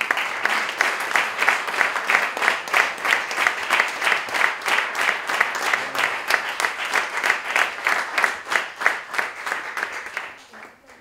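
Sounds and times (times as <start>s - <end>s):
small audience applauding: 0.0s - 11.0s.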